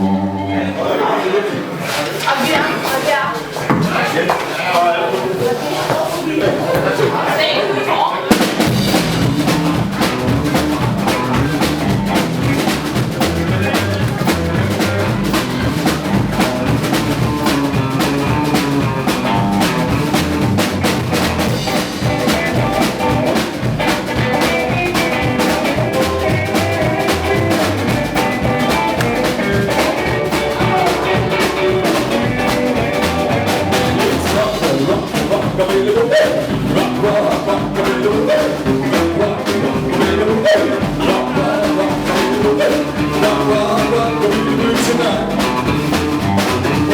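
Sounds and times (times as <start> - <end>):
live band playing dance music: 4.9 - 46.9
drum kit beat: 8.3 - 46.9.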